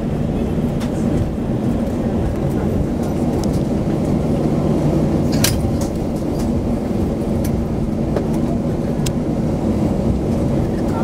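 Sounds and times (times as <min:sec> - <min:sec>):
aircraft engines and wheels rumbling: 0:00.0 - 0:11.0.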